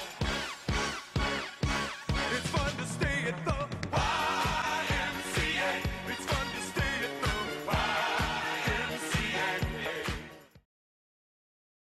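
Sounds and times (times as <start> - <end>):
upbeat music with wavering melody: 0.0 - 10.6.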